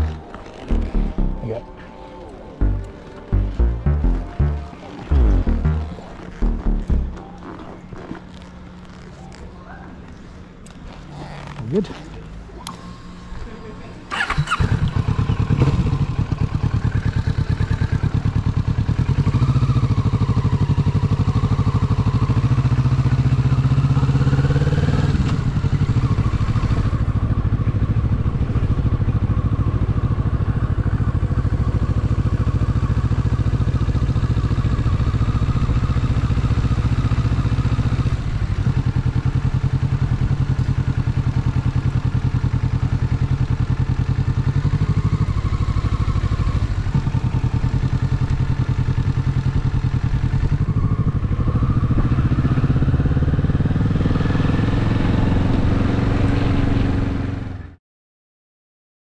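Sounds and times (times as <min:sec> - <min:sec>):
motorcycle engine running: 0:00.0 - 0:09.3, 0:14.1 - 0:57.8.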